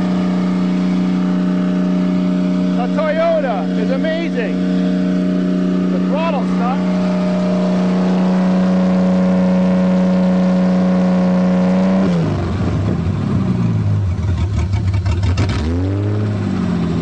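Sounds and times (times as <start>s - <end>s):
car engine racing at high revs: 0.0s - 17.0s.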